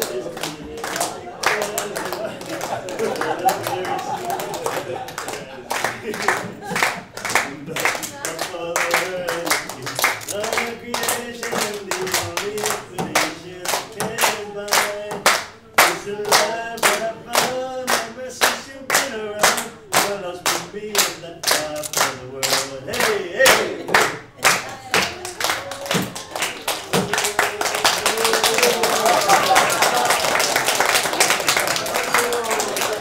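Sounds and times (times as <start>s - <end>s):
people singing: 0.0s - 30.4s
group clapping on a beat: 0.0s - 33.0s.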